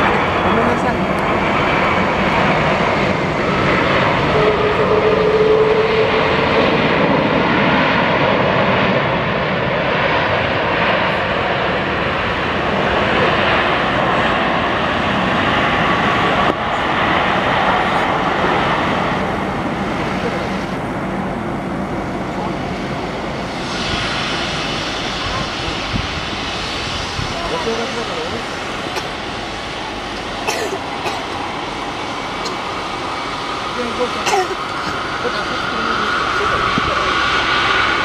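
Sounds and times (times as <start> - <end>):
engine whine: 0.0 - 38.0
jet engines on reverse thrust: 0.0 - 38.0.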